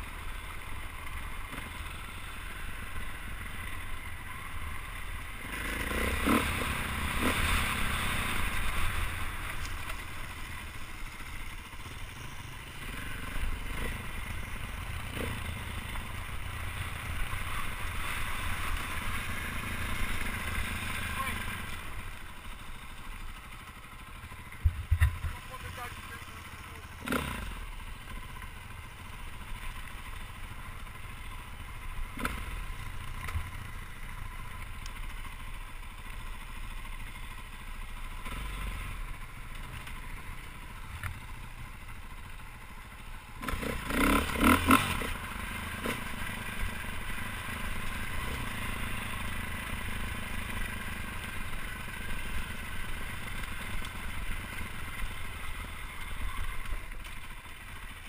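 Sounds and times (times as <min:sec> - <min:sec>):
dirt bike engine: 0:00.0 - 0:58.0.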